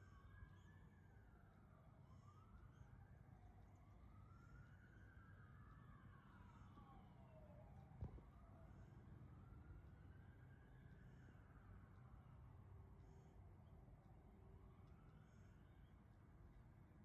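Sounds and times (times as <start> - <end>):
faint siren wailing: 0.0 - 17.0.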